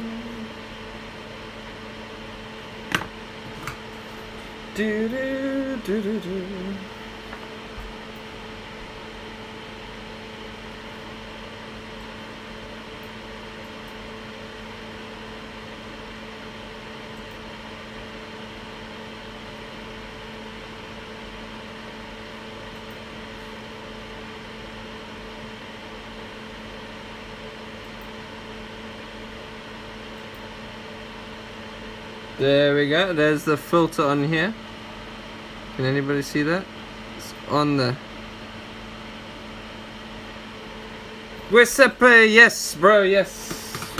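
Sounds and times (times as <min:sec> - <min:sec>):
electric blower fan whirring: 0:00.0 - 0:43.9
low steady hum: 0:00.0 - 0:43.9.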